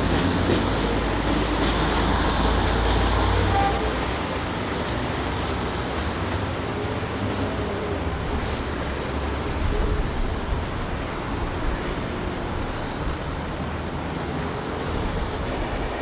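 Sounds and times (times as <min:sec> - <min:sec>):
steady wash of noise: 0:00.0 - 0:16.0
train engine and wheel rumble: 0:00.0 - 0:16.0.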